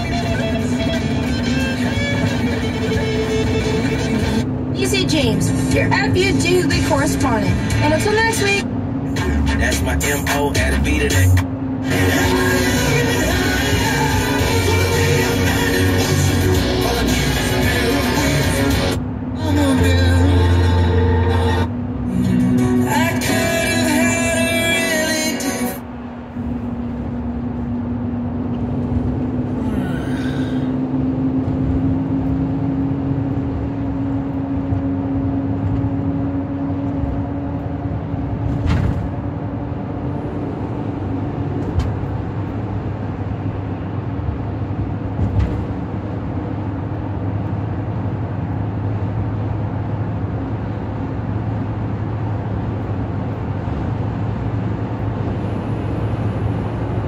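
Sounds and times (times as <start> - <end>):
car cabin road and engine noise: 0.0 - 57.0.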